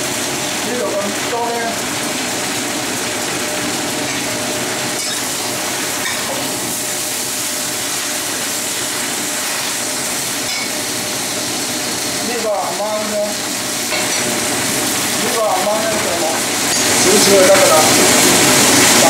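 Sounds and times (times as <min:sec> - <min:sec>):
greens sizzling in a wok: 0:00.0 - 0:19.0.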